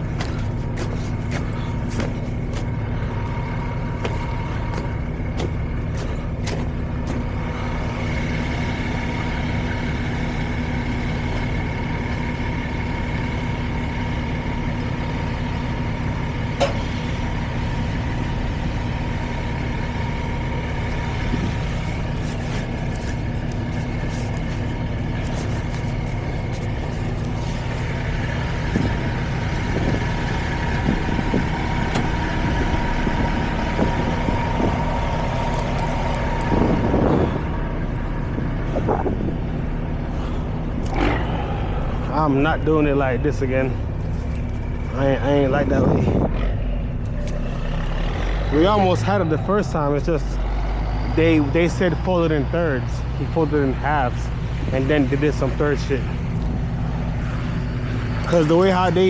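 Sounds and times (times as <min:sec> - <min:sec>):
high whine: 0:00.0 - 0:50.4
diesel truck engine idling: 0:00.0 - 0:59.0.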